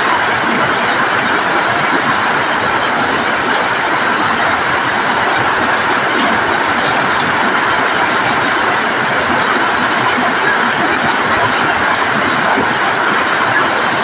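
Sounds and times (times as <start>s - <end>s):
heavy rain on metal roofs: 0.0s - 14.0s.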